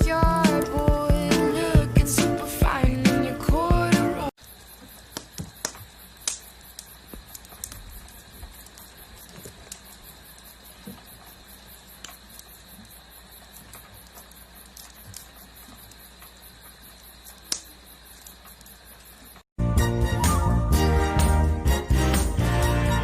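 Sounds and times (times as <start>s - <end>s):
campfire pops and crackles: 0.0s - 19.5s
crickets chirring: 0.0s - 19.5s.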